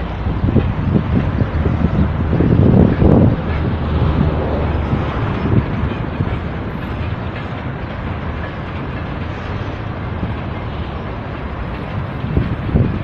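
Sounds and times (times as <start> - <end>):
train knocks: 0.0 - 13.0
train wheels rumbling on rails: 0.0 - 13.0.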